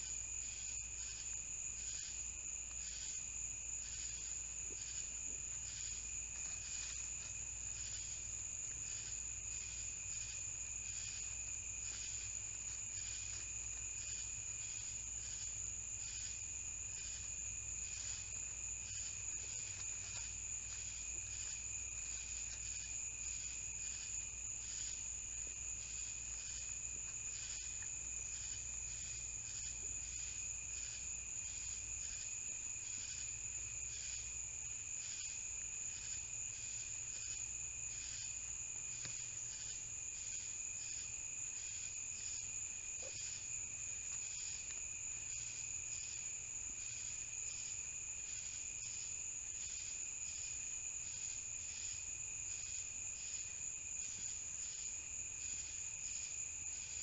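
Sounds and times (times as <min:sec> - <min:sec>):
crickets trilling: 0:00.0 - 0:57.0
pulsing cricket chirp: 0:00.0 - 0:57.0.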